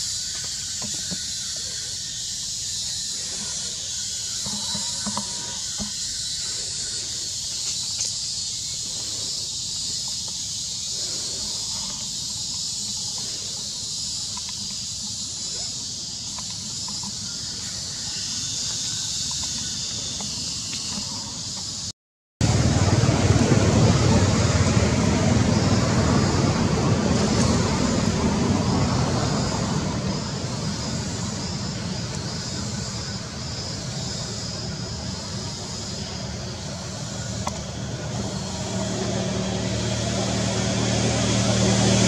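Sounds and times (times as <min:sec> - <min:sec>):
chorus of forest insects: 0:00.0 - 0:42.0.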